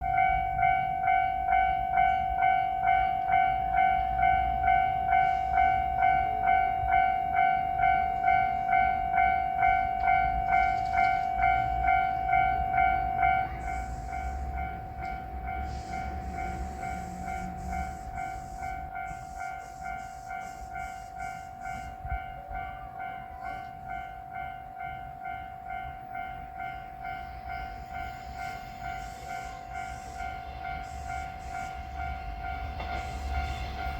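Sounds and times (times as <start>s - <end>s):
level crossing warning bell ringing: 0.0s - 33.9s
low rumble of diesel railcar: 0.0s - 33.9s.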